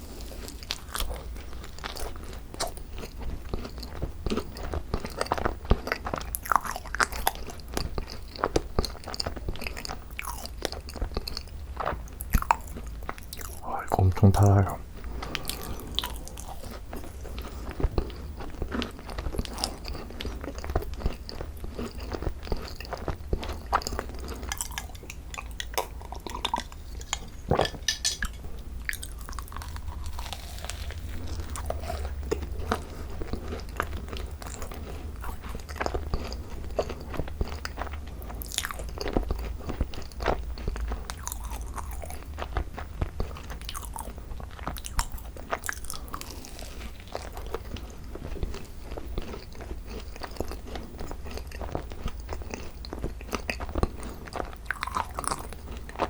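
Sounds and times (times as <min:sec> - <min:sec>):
chewing and biting macaron: 0:00.0 - 0:56.0.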